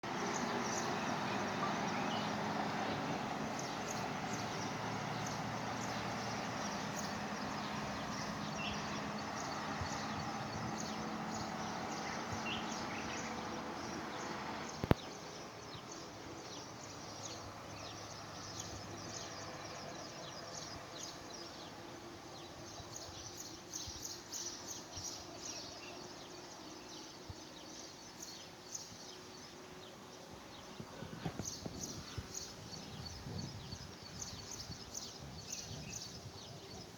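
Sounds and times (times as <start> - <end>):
steady outdoor hiss: 0.0 - 36.9.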